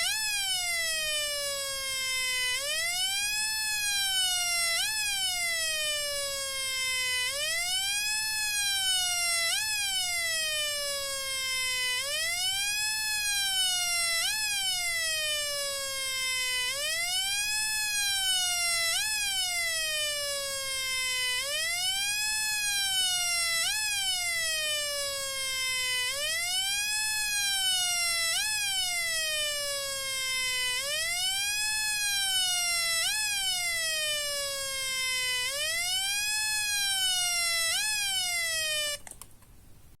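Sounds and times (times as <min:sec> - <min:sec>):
electronic siren wailing: 0:00.0 - 0:39.1.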